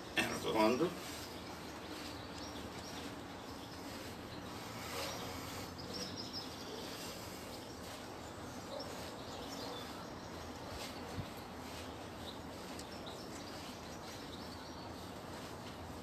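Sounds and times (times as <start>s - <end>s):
outdoor background noise: 0.0s - 16.0s
faint bird chirps: 1.2s - 15.4s.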